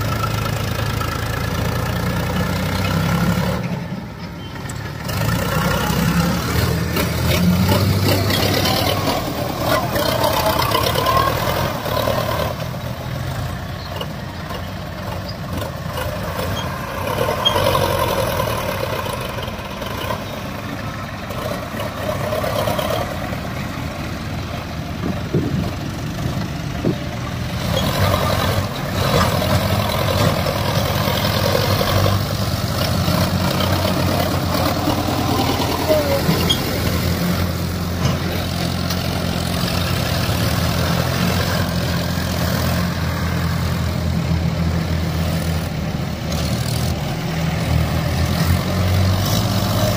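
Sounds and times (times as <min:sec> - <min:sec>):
diesel tractor engines under load: 0:00.0 - 0:49.9.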